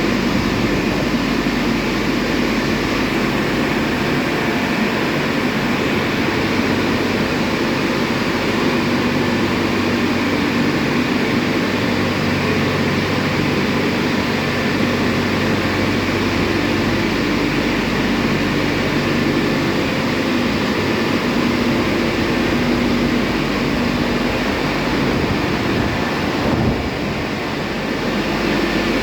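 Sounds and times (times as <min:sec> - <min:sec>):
car wash machine whirring: 0:00.0 - 0:29.0.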